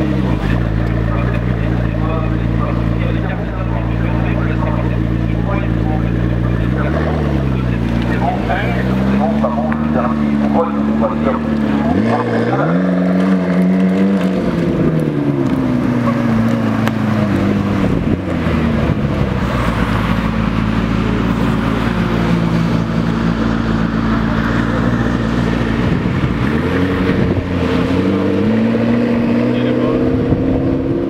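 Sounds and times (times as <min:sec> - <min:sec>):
sports car engine running: 0:00.0 - 0:31.0.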